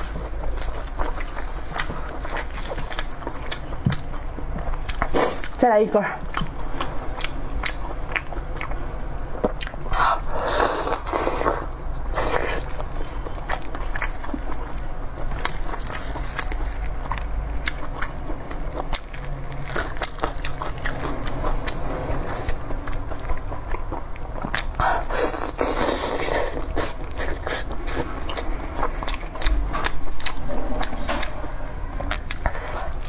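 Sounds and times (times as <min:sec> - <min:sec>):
wet chewing and biting: 0:00.0 - 0:05.6, 0:06.2 - 0:31.4, 0:32.0 - 0:33.0.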